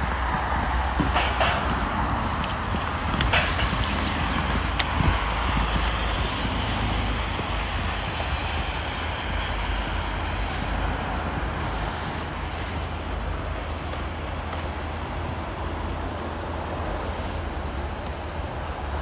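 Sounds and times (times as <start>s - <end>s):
wind buffeting microphone: 0.0s - 17.1s.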